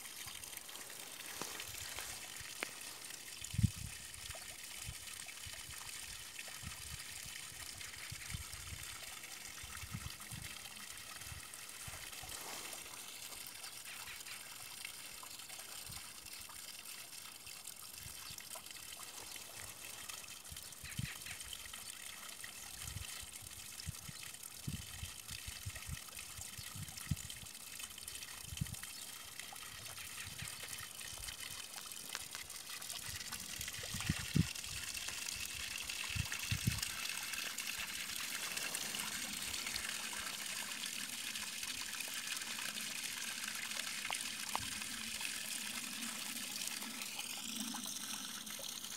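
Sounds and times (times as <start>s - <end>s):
water trickling: 0.0s - 48.9s.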